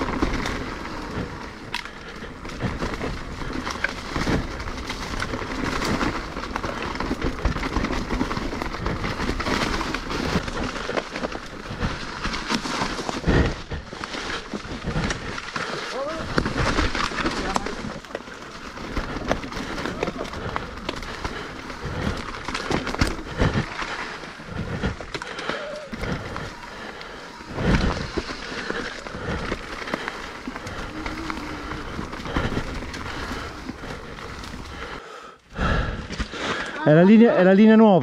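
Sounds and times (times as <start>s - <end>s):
bike knocking and rattling: 0.0s - 35.0s
bike tyres on dirt trail: 0.0s - 38.0s.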